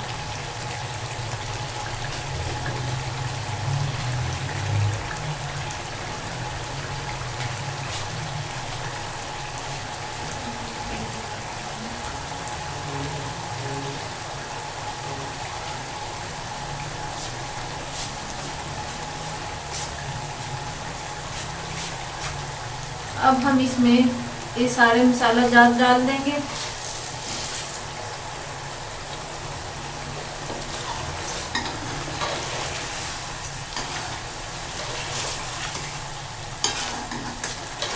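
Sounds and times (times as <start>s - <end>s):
curry sizzling and bubbling in pot: 0.0s - 37.9s.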